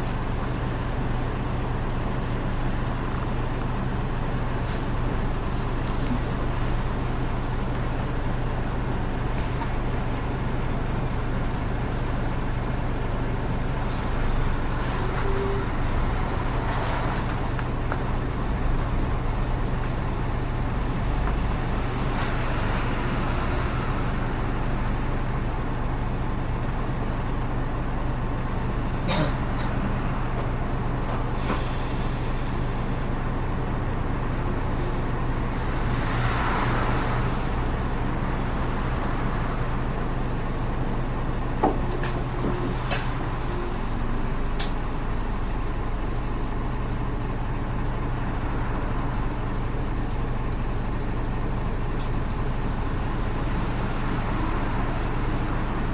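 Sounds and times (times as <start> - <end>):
bus diesel engine running: 0.0 - 55.9.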